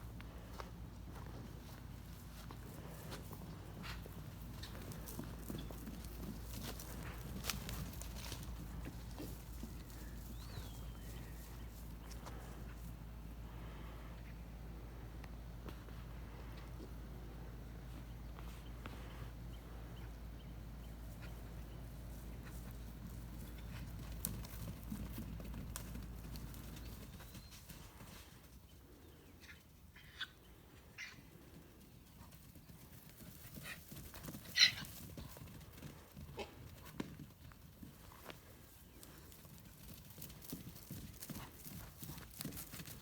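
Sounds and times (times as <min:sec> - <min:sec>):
hooves knocking on ground: 0:00.0 - 0:28.6, 0:31.4 - 0:43.0
low steady hum: 0:00.0 - 0:43.0.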